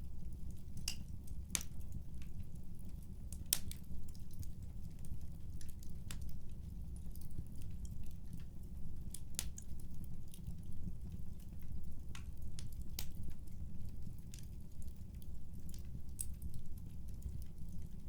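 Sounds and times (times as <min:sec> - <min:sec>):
fireplace crackling: 0:00.0 - 0:18.0.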